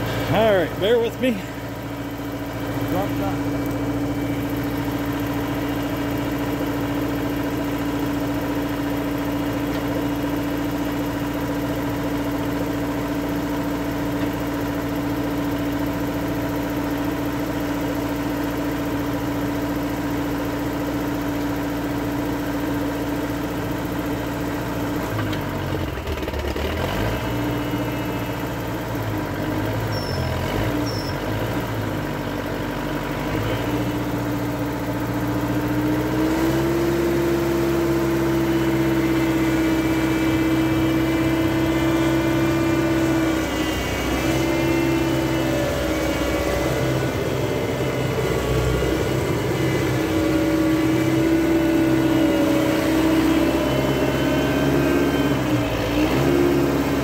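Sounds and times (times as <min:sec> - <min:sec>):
skid steer engine idling: 0:00.0 - 0:57.0.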